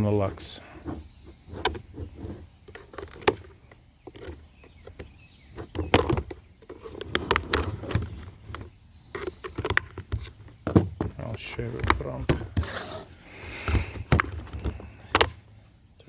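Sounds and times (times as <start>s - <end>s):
plastic housing clicking: 0.8s - 12.7s, 13.6s - 15.4s.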